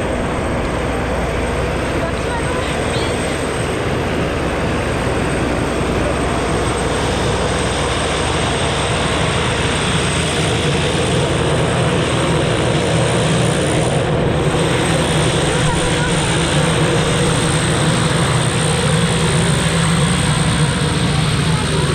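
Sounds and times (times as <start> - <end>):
propeller plane engine in cabin: 0.0 - 21.9.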